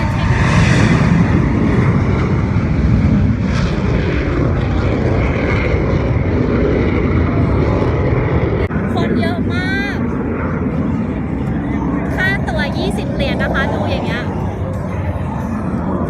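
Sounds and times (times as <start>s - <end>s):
airplane engine drone: 0.0s - 16.0s.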